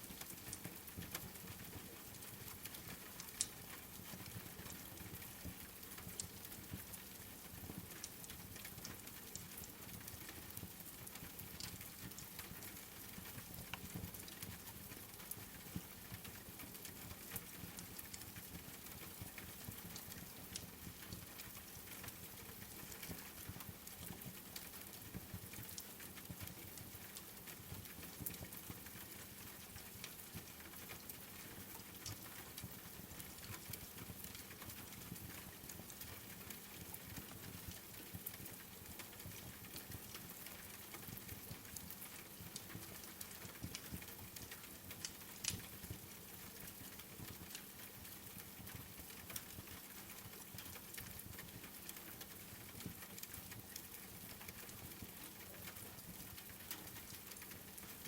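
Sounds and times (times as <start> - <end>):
rain pattering: 0.0 - 58.0
wood fire crackling and popping: 2.5 - 3.8, 5.2 - 31.2, 31.8 - 58.0.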